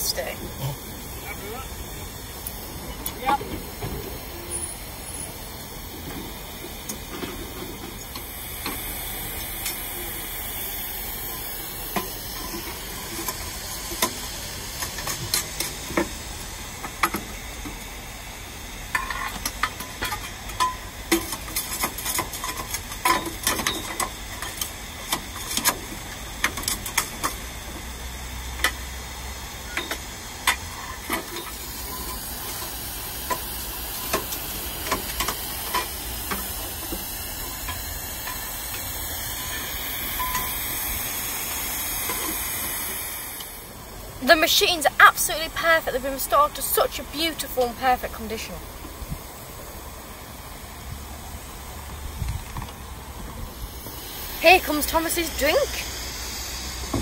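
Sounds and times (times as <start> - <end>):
steam locomotive hissing: 0.0 - 57.0.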